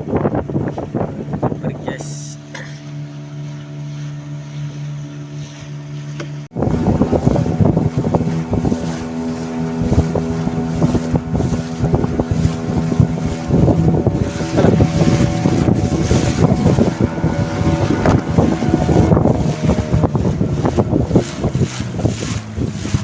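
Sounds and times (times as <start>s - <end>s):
wind buffeting microphone: 0.0s - 3.8s, 6.5s - 23.0s
boat engine running: 0.0s - 23.0s.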